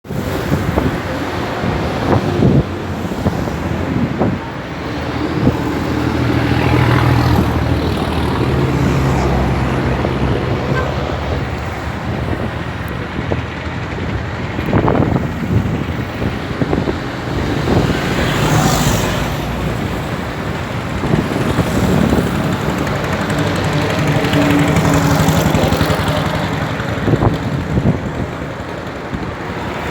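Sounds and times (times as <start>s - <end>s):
water noise: 0.0s - 29.9s
wind: 0.0s - 29.9s
boat engine running: 0.1s - 29.9s.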